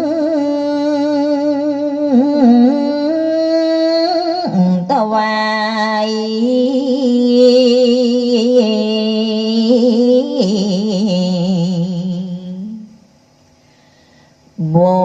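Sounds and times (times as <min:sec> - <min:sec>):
person singing with vibrato: 0:00.0 - 0:13.1, 0:14.6 - 0:15.0.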